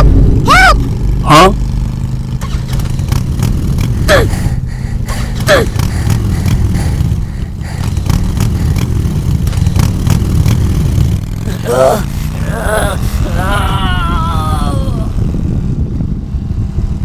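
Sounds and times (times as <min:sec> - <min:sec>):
small engine running: 0:00.1 - 0:15.5.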